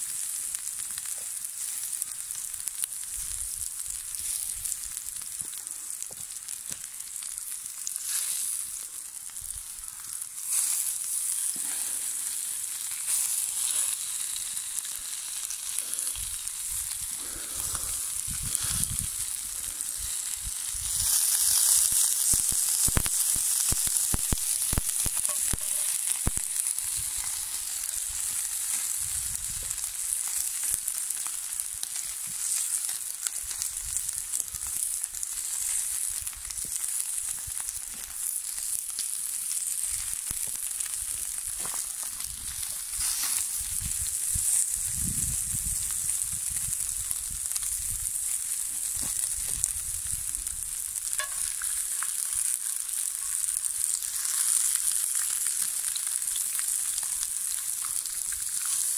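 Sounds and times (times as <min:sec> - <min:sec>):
oil sizzling in a skillet: 0:00.0 - 0:58.9.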